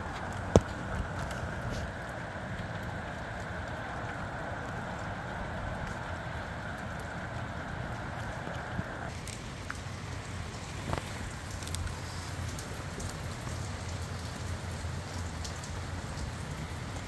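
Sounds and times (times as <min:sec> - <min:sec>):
raindrops ticking on surfaces: 0:00.0 - 0:17.0
steady rain: 0:00.0 - 0:17.0.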